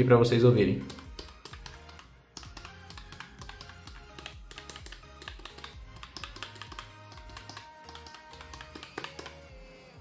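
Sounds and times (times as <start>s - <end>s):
background music: 0.0s - 10.0s
keyboard key clicks: 0.8s - 9.5s.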